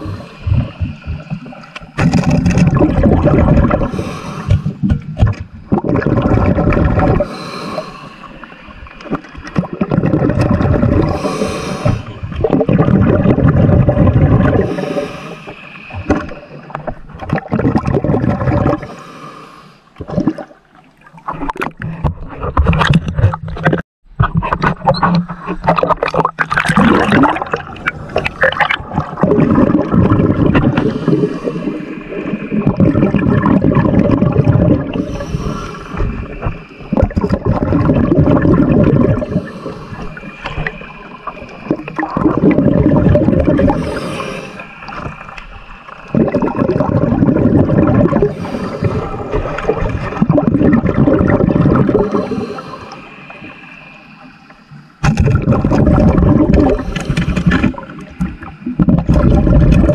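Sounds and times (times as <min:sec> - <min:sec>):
diver breathing underwater: 0:00.0 - 0:04.9, 0:06.0 - 0:09.0, 0:09.6 - 0:17.0, 0:18.1 - 0:20.5, 0:26.8 - 0:59.9
exhaled bubbles gurgling: 0:00.0 - 0:19.1, 0:19.9 - 0:59.9.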